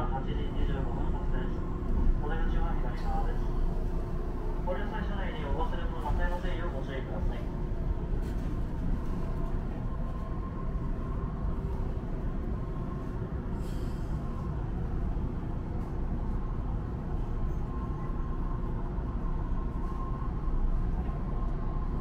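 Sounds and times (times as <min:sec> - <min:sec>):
faint steady whine: 0:00.0 - 0:22.0
train wheels rumbling on rail: 0:00.0 - 0:22.0.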